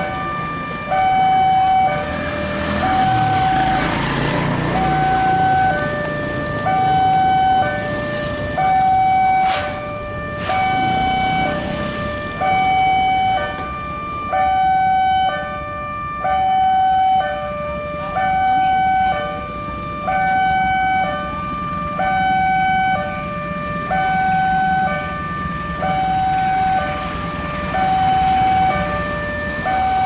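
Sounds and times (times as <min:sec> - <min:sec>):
level crossing two-tone alarm: 0:00.0 - 0:30.0
low rumble of engines: 0:00.0 - 0:30.0.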